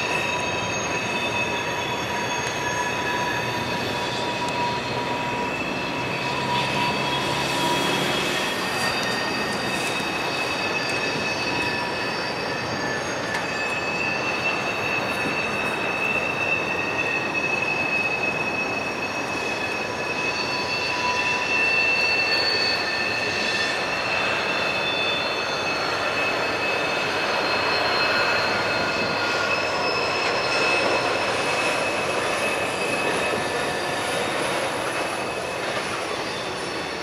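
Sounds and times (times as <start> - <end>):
high-pitched wheel squeals: 0.0 - 37.0
train wheels grinding on rails: 0.0 - 37.0.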